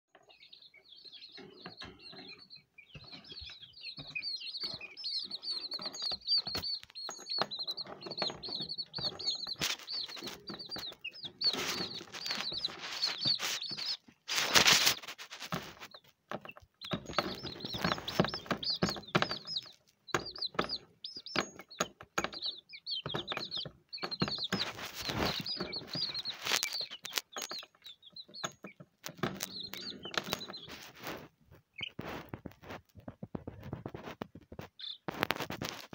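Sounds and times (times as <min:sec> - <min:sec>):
chicks cheeping: 0:00.1 - 0:35.9
scuffling and pecking: 0:00.1 - 0:35.9.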